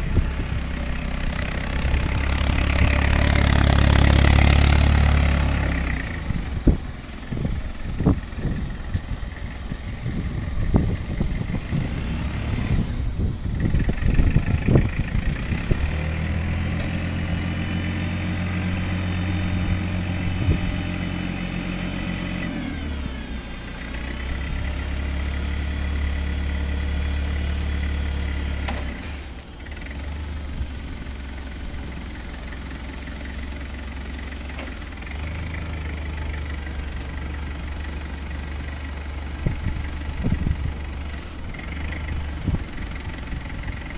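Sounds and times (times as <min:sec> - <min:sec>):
forklift engine running: 0:00.0 - 0:43.9.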